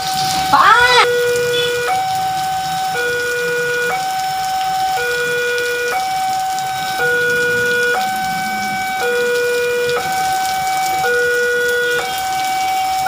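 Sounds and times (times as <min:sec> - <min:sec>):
heavy rain hissing: 0:00.0 - 0:13.0
two-tone siren: 0:00.1 - 0:13.0.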